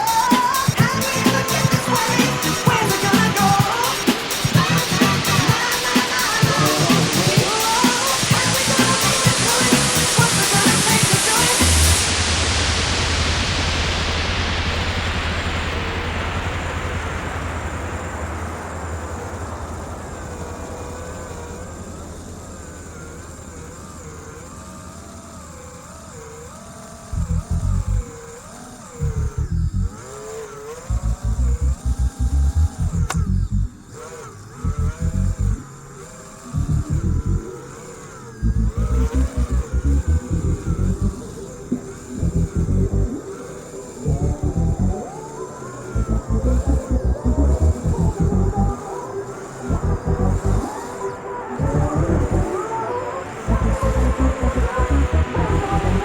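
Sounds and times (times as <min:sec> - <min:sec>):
drone propeller whoosh: 0:00.0 - 0:25.5, 0:27.0 - 0:30.2, 0:30.8 - 0:56.0
faint motor whine: 0:00.0 - 0:56.0.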